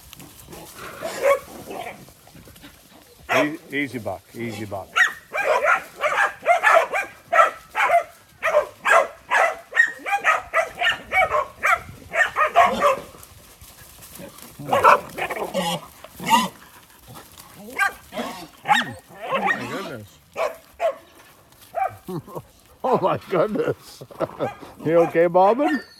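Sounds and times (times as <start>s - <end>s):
dogs barking: 0.5s - 2.1s, 2.9s - 3.8s, 4.5s - 13.2s, 14.2s - 22.2s, 24.3s - 25.9s.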